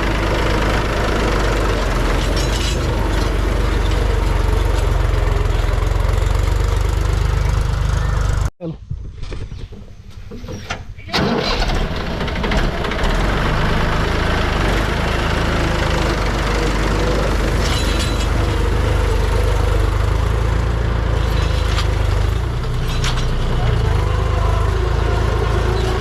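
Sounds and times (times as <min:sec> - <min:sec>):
heavy diesel engine running: 0:00.0 - 0:08.5, 0:11.1 - 0:26.0.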